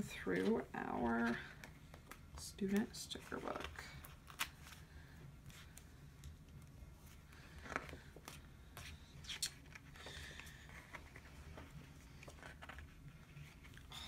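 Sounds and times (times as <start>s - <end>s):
paper pages rustling: 0.1s - 6.4s, 7.0s - 14.0s.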